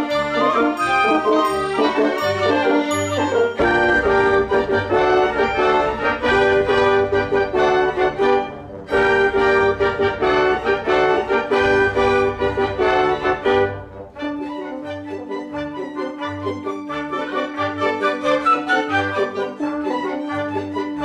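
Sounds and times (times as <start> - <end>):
ensemble with violins playing: 0.0 - 21.0.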